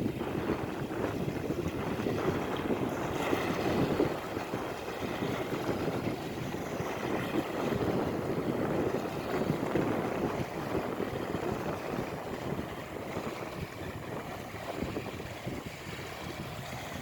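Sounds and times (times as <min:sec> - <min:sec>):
small sea waves on sand: 0:00.0 - 0:17.0
wind buffeting microphone: 0:00.0 - 0:17.0.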